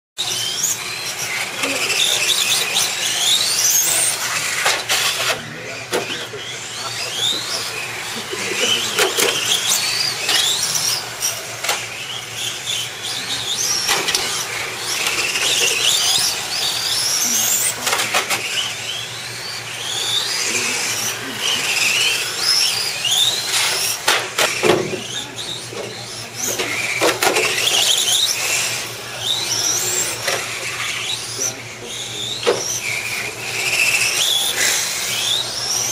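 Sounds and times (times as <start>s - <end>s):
rc car motor whine: 0.2s - 35.9s.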